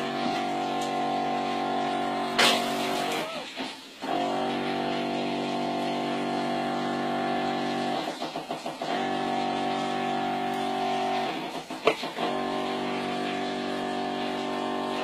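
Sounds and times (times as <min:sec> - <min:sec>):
electric pump humming: 0:00.0 - 0:15.0
pump fluttering pulse: 0:00.0 - 0:15.0.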